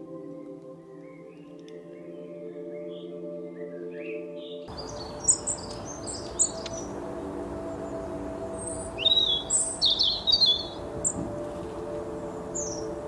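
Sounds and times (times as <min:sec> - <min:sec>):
ambient music drone: 0:00.0 - 0:13.0
songbirds chirping: 0:00.0 - 0:13.0.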